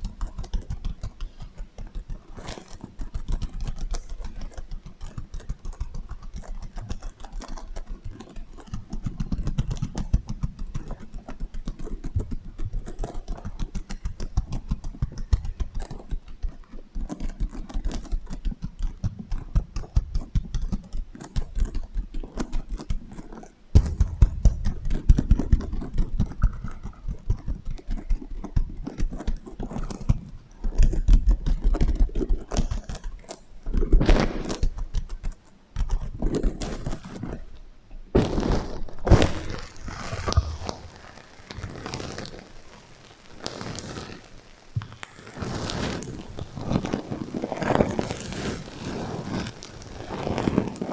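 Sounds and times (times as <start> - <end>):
sequins scratched and tapped: 0.0 - 50.9.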